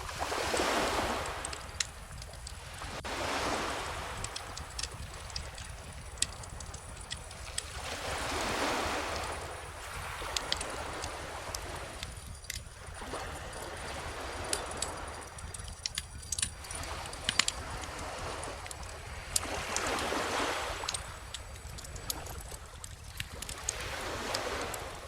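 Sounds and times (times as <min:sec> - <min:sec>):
ocean waves washing: 0:00.0 - 0:25.0
bonfire crackling: 0:00.1 - 0:20.0, 0:20.6 - 0:23.8.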